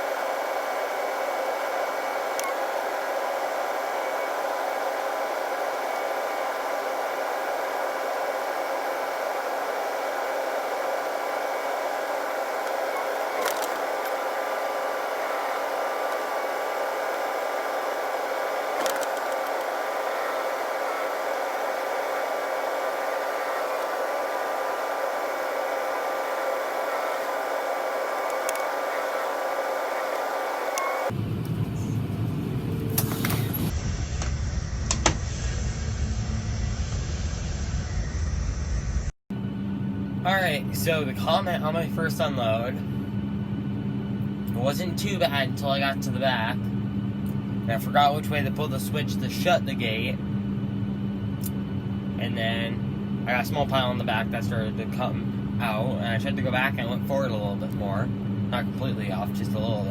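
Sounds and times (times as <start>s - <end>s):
air-conditioning fan whir: 0.0s - 59.9s.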